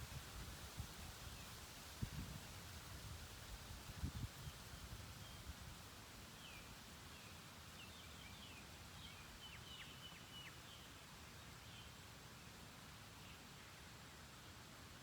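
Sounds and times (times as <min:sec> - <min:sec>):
outdoor ambience hiss: 0:00.0 - 0:15.0.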